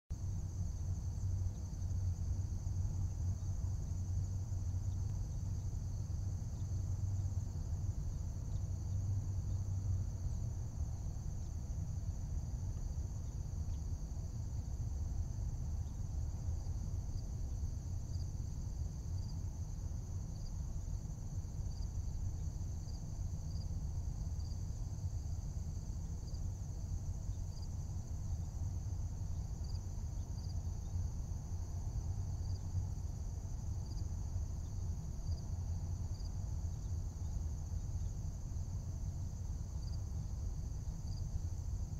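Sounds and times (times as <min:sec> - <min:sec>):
insect chirping: 0:00.1 - 0:41.9
low steady rumble: 0:00.1 - 0:41.9
insects chirring: 0:00.2 - 0:41.9.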